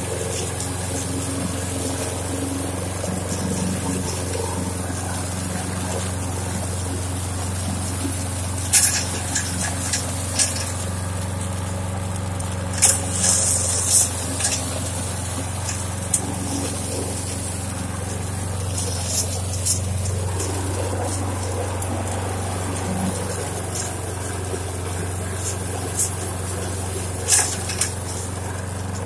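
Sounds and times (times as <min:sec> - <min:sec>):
lawn mower engine running: 0:00.0 - 0:29.0
sharp clatters: 0:02.8 - 0:29.0.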